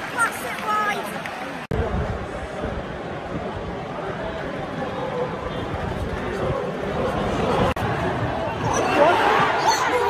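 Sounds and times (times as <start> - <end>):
murmur of distant crowd voices: 0.0 - 10.0.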